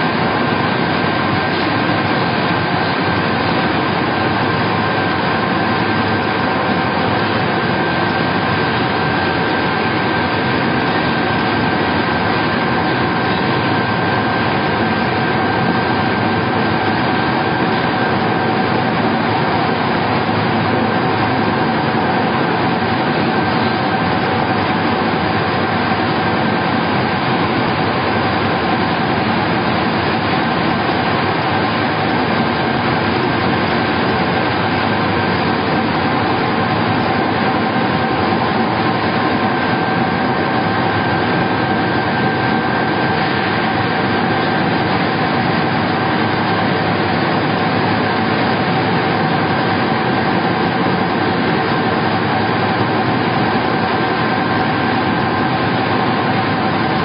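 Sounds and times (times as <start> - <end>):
constant machine whine: 0.0 - 57.0
pellet mill machine din: 0.0 - 57.0.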